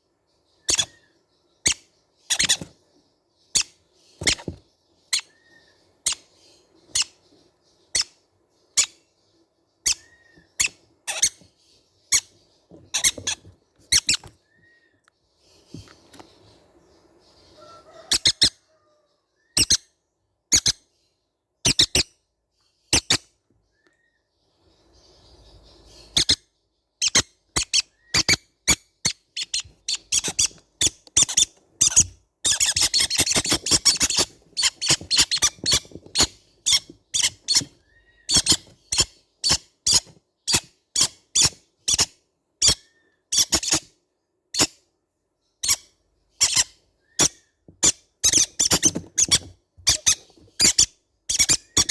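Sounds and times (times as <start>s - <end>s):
baby parrots squeaking: 0.5s - 2.9s, 3.5s - 9.1s, 9.8s - 14.9s, 17.3s - 18.9s, 19.5s - 19.9s, 20.5s - 20.9s, 21.6s - 22.2s, 22.9s - 23.3s, 25.0s - 44.8s, 45.6s - 51.9s.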